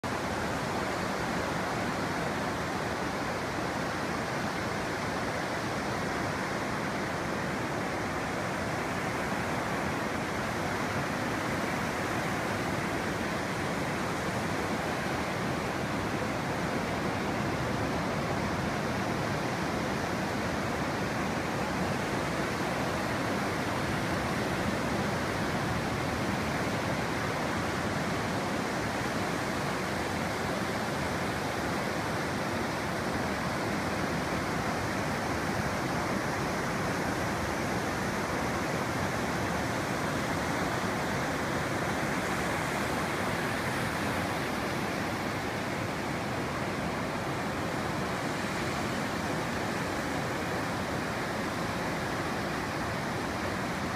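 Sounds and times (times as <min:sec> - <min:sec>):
ocean waves breaking on beach: 0:00.0 - 0:53.9.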